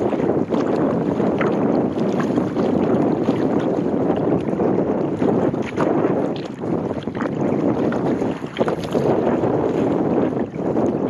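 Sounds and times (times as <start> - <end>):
kayak paddle splashing: 0.0 - 11.0
wind buffeting microphone: 0.0 - 11.0.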